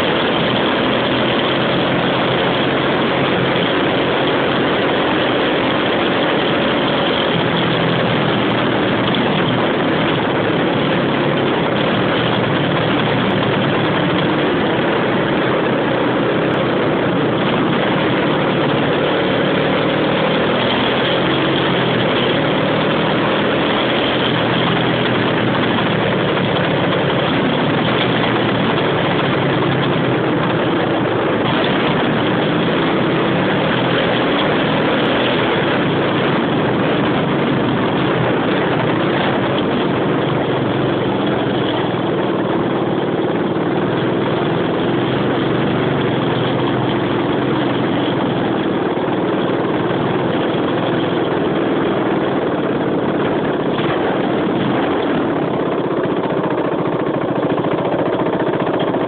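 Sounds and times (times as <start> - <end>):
vehicle engine running: 0.0 - 59.0
wind and road noise: 0.0 - 59.0.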